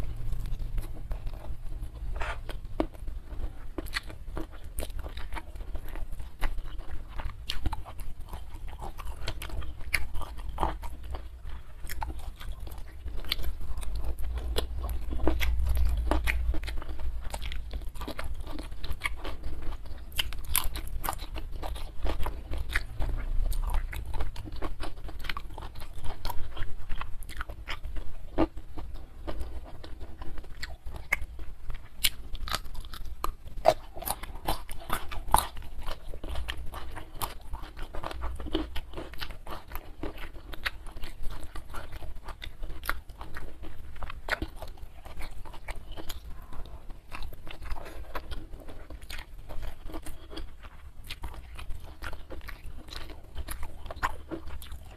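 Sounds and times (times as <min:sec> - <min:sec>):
chewing and crunching food: 0:00.0 - 0:54.9.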